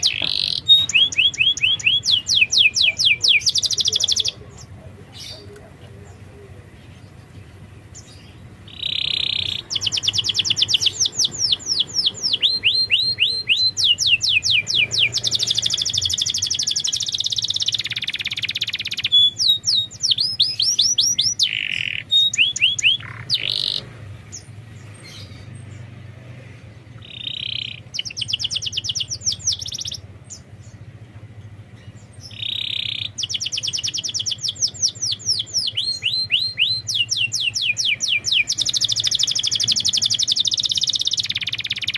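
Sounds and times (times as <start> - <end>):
canary singing fast trills: 0.0 - 41.9.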